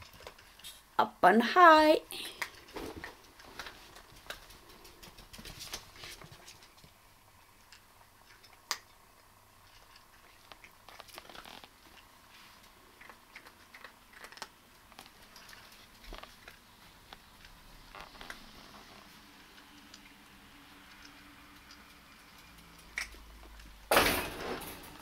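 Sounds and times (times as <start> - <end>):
cats eating crunchy food: 0.0 - 1.0, 2.2 - 23.9.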